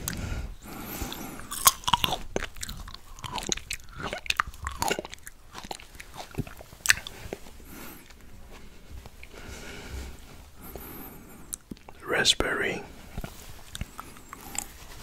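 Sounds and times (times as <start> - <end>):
chewing crunchy berries: 0.0 - 9.9, 10.5 - 15.0.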